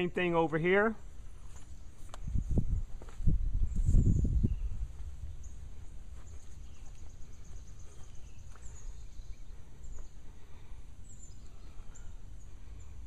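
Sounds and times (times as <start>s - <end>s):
small birds chirping: 0.0s - 13.0s
steady low rumble: 1.0s - 13.0s.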